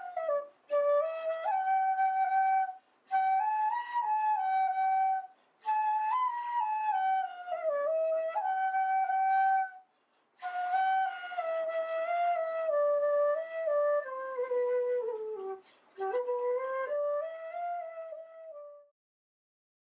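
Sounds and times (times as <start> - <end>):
solo flute melody: 0.0 - 18.9.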